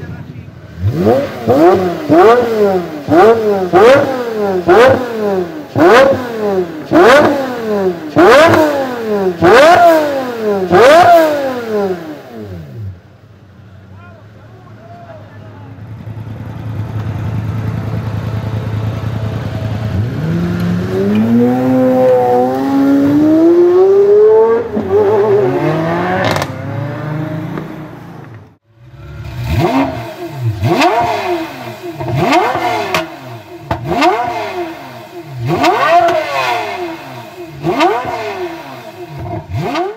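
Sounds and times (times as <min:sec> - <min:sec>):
sports car engine accelerating: 0:00.6 - 0:13.0, 0:15.8 - 0:39.9
supercar engine revving sharply: 0:00.6 - 0:13.0, 0:16.1 - 0:39.9.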